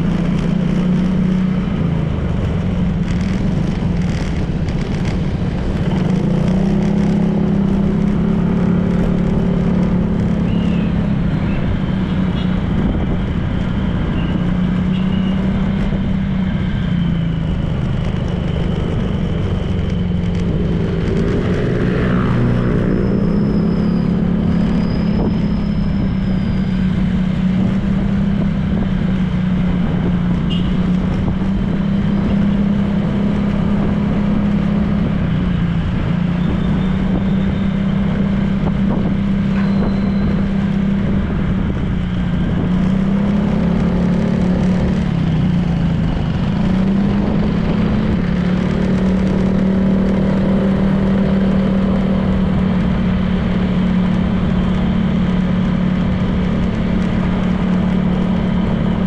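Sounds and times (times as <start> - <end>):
passing vehicle: 0.0 - 59.0
scooter engine cruising: 0.0 - 59.0
wind and road noise: 0.0 - 59.0.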